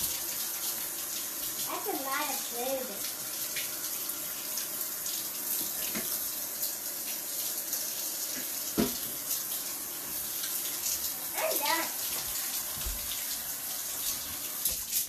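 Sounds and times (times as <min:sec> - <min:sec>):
faucet running into sink: 0:00.0 - 0:15.0.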